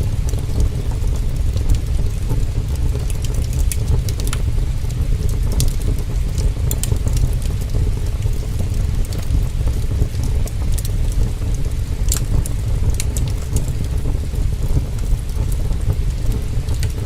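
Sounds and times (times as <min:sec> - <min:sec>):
heavy rain with low rumble: 0:00.0 - 0:17.0
wood fire crackling and popping: 0:00.0 - 0:17.0.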